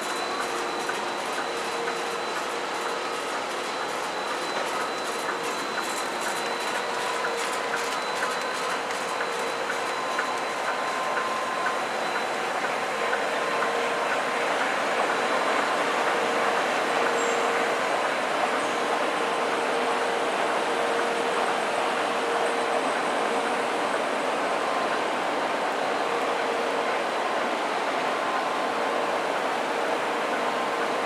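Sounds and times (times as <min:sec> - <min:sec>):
printing press rattling and whirring: 0:00.0 - 0:31.0
steady machine tones: 0:00.0 - 0:31.0.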